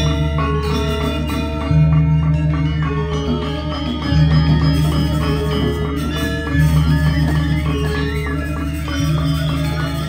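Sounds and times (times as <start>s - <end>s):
metallophones playing fast patterns: 0.0s - 10.0s.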